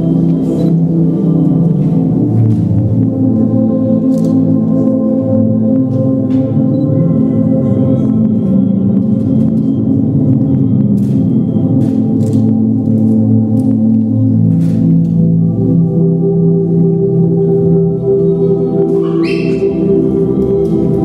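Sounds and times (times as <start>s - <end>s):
ambient drone music: 0.0s - 21.0s.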